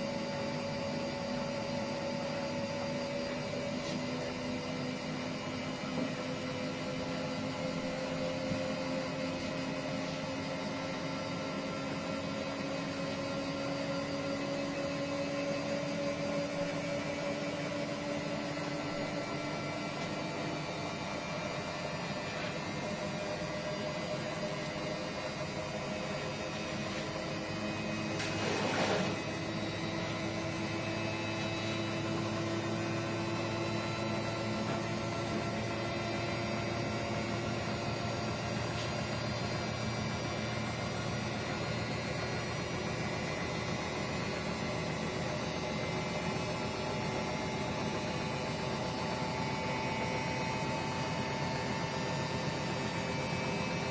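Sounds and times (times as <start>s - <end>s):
washing machine motor hum and whine: 0.0s - 53.9s.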